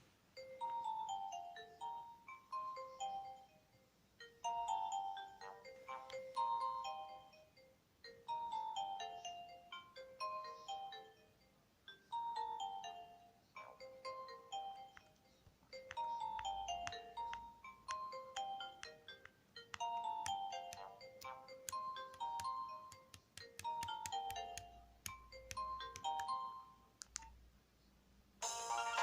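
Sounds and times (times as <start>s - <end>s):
mobile phone ringtone melody: 0.4s - 26.9s.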